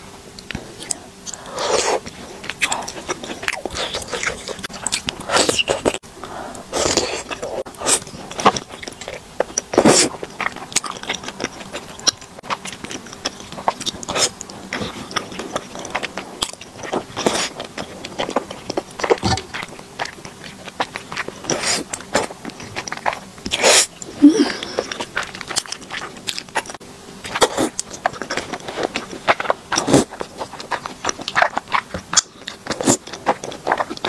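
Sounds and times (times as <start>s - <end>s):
wet chewing and smacking: 0.4s - 6.0s, 6.8s - 34.0s.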